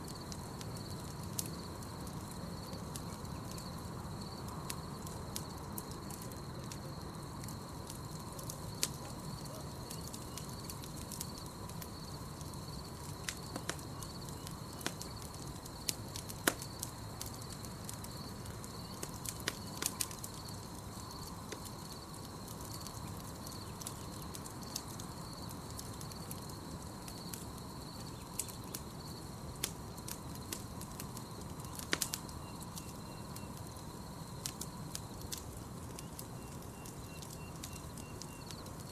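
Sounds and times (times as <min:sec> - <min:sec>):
campfire crackling: 0:00.0 - 0:38.9
night insects chirping: 0:00.0 - 0:38.9.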